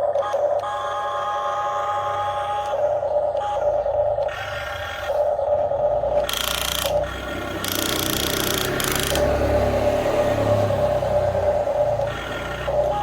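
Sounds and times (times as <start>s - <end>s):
toy excavator motors whining: 0.0s - 13.0s.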